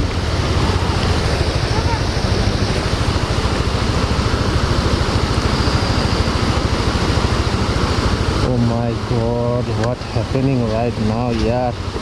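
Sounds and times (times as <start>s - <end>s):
motorcycle engine running: 0.0s - 12.0s
stream flowing over rocks: 0.0s - 12.0s.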